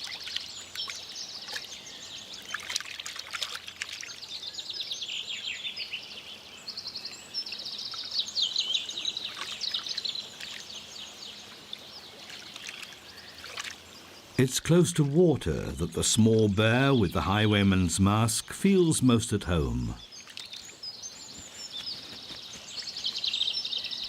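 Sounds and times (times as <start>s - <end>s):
songbirds singing: 0.0s - 24.0s
stream trickling and splashing: 0.0s - 24.0s.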